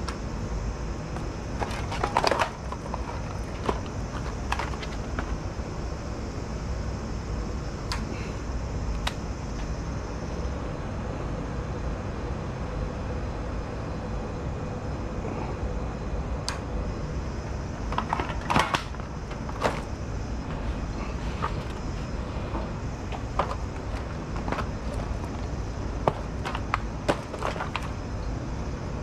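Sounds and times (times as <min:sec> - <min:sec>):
low rumble and hum: 0:00.0 - 0:29.0.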